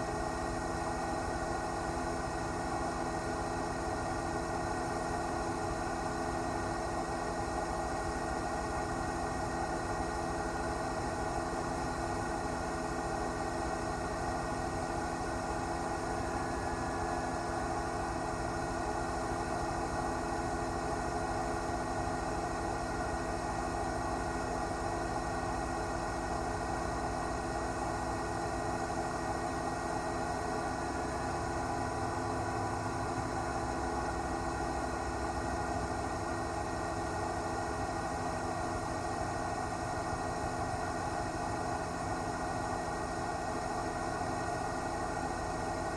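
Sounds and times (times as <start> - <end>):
helicopter engine and rotor drone: 0.0 - 45.9.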